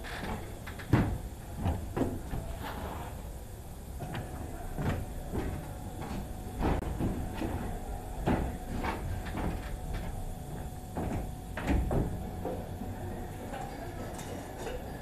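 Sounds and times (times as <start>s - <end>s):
footsteps on steel grating: 0.0s - 3.3s, 4.0s - 13.0s
ventilation hum: 0.0s - 15.0s.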